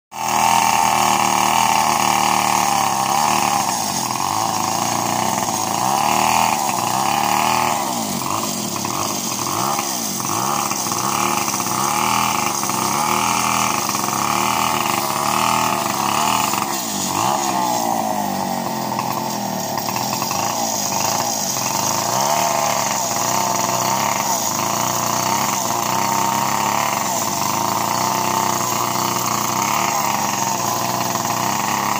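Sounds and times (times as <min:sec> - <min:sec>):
chainsaw engine revving: 0:00.1 - 0:31.9.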